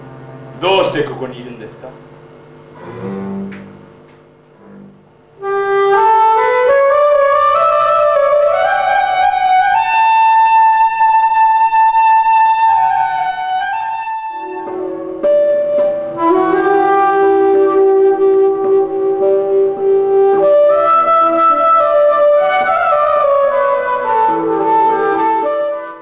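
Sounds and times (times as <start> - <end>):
solo woodwind instrument: 2.8 - 3.8, 4.6 - 26.0.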